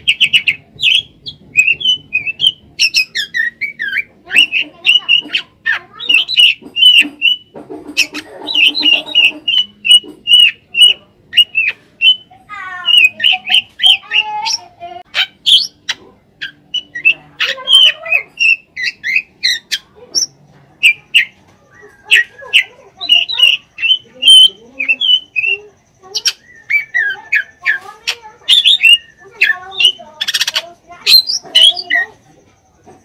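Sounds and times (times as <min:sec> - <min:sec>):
drongo singing whistled song: 0:00.0 - 0:05.4, 0:06.1 - 0:14.6, 0:16.4 - 0:25.6, 0:26.2 - 0:27.8, 0:28.4 - 0:32.2
bird harsh scratchy call: 0:00.0 - 0:32.2.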